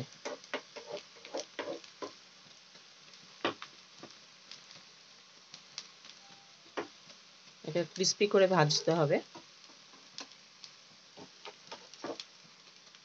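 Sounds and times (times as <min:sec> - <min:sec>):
noodles sizzling in oil: 0:00.0 - 0:13.0.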